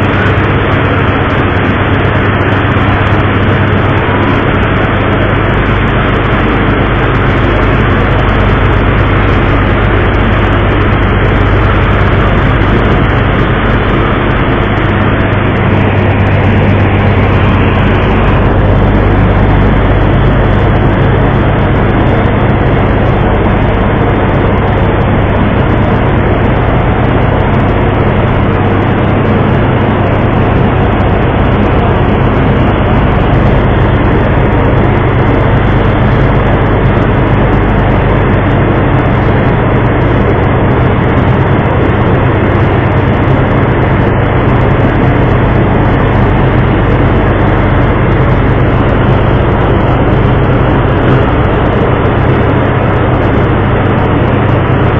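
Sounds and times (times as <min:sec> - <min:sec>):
constant rushing noise: 0:00.0 - 0:54.9
ship engine humming: 0:00.0 - 0:54.9.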